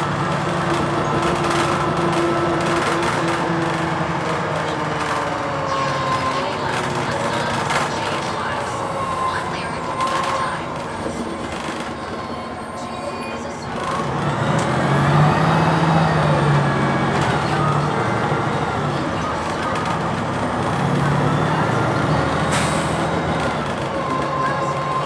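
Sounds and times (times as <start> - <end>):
bus engine under way: 0.0 - 25.0.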